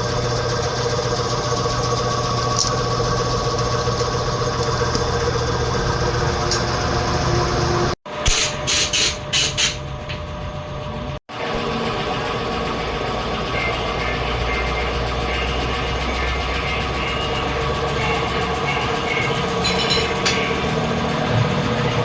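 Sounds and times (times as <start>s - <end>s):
high machine whine: 0.0s - 22.0s
machinery hum: 0.0s - 22.0s.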